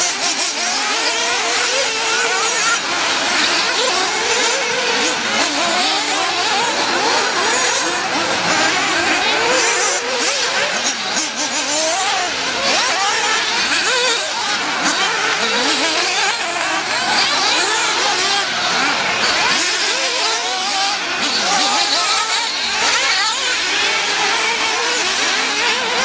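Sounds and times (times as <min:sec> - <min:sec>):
model buggy engines whining: 0:00.0 - 0:26.0.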